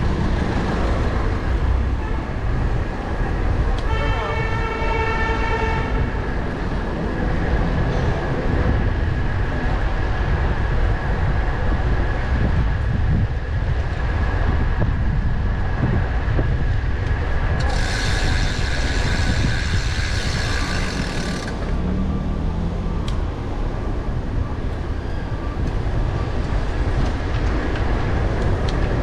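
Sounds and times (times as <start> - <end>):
city traffic noise: 0.0 - 29.0
wind rushing over microphone: 0.0 - 29.0.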